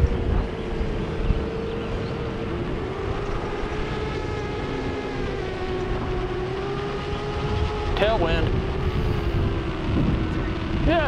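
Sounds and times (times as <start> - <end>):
drone motors humming: 0.0 - 11.0
wind rumble: 0.0 - 11.0.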